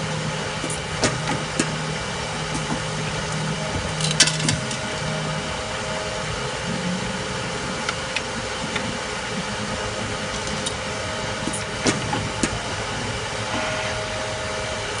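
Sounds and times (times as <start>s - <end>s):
machine drone with faint whine: 0.0s - 15.0s.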